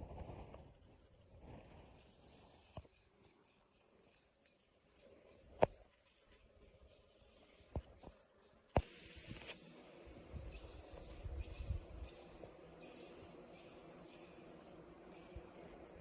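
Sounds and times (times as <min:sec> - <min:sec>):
faint steady high hiss: 0:00.0 - 0:16.0.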